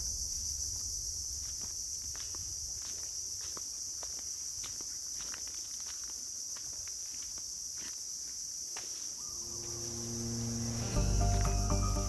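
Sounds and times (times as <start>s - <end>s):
insects droning: 0.0s - 12.0s
footsteps on dry twigs: 0.8s - 12.0s.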